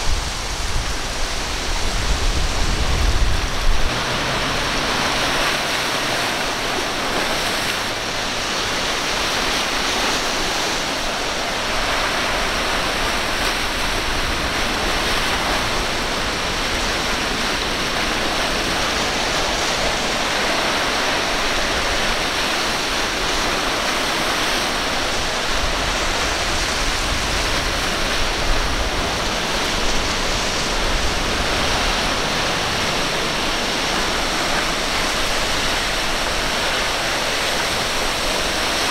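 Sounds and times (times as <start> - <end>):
breaking surf: 0.0 - 38.9.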